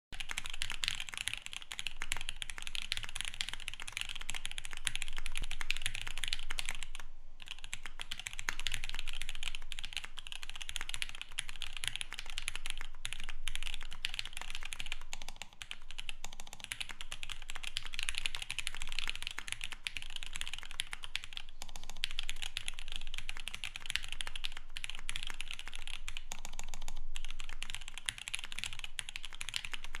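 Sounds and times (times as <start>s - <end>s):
fast mechanical keyboard typing: 0.2s - 30.0s.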